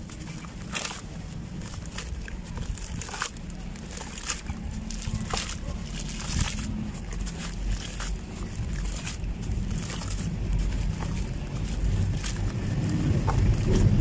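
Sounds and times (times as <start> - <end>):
low background rumble: 0.0 - 14.0
sand-cement chunks crumbling: 0.0 - 14.0.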